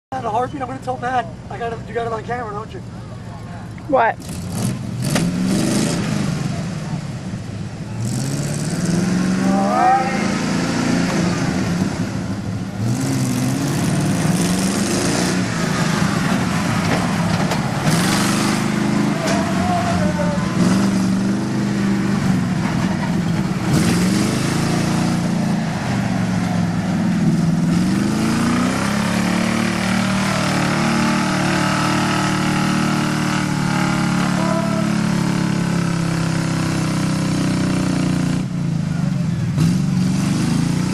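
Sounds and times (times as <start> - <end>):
truck engines revving: 0.1 - 40.9.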